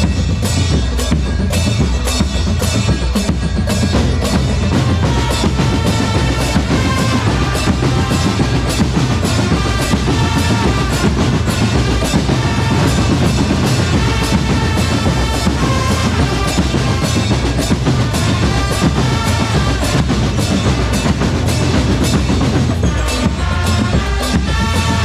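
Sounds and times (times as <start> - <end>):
snare and bass drums beat: 0.0 - 25.0.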